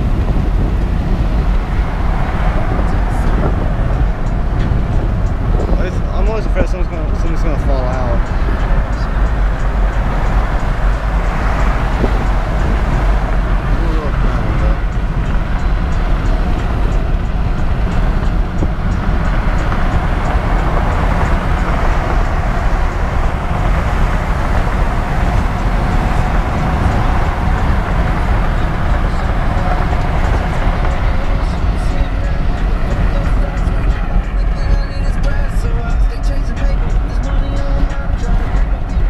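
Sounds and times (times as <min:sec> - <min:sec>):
road and wind noise in car: 0:00.0 - 0:39.0.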